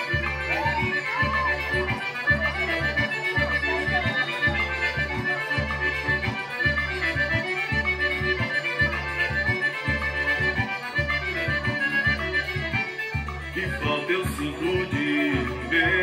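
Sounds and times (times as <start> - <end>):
accordion-led folk music: 0.0 - 16.0.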